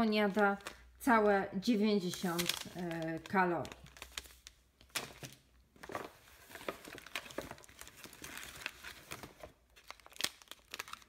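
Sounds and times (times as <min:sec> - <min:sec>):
plastic pouches crinkling: 0:00.0 - 0:11.0.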